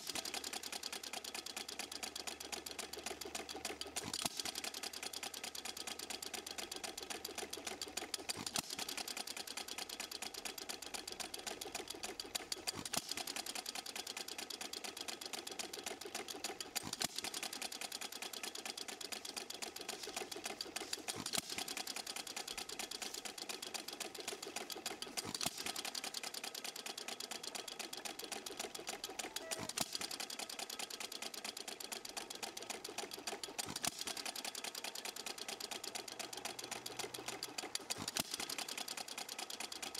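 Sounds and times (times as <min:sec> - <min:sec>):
engine mechanical clatter: 0:00.0 - 0:39.9.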